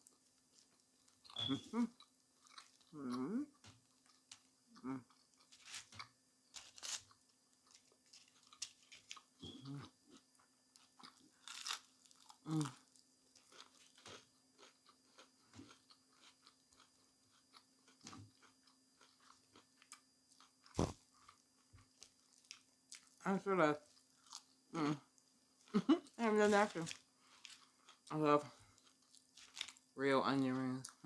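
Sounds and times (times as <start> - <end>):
chewing crunches: 0.0 - 23.2, 26.8 - 29.8
faint steady hum: 0.0 - 31.0.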